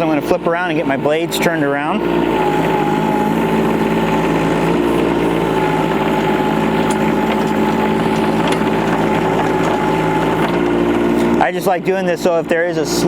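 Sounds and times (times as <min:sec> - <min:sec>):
constant high whine: 0:00.0 - 0:13.0
diesel engine running: 0:00.0 - 0:13.0.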